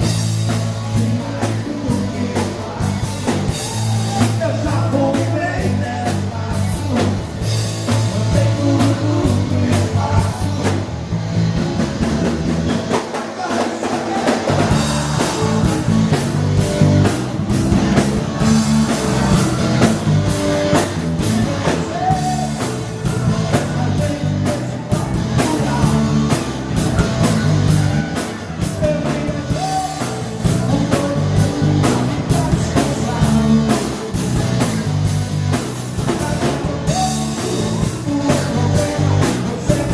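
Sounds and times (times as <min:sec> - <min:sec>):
live dance band playing: 0:00.0 - 0:39.9
person singing: 0:00.1 - 0:07.3, 0:07.9 - 0:10.9, 0:13.1 - 0:34.9, 0:36.0 - 0:39.9.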